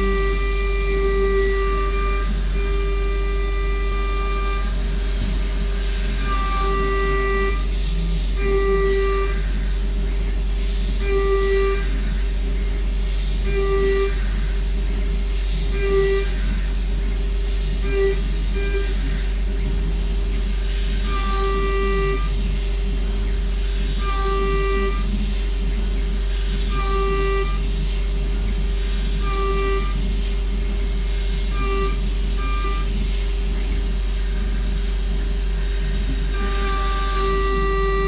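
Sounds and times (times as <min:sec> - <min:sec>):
cnc router spindle whine: 0:00.0 - 0:38.0.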